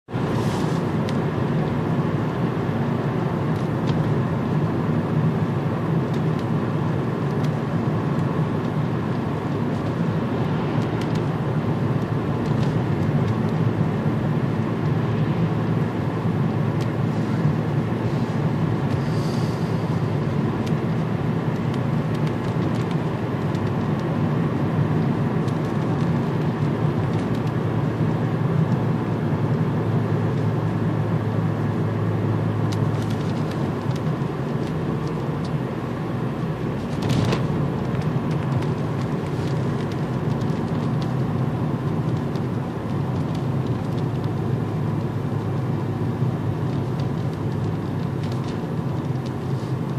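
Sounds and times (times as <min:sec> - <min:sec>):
car cabin road and engine rumble: 0:00.0 - 0:49.9.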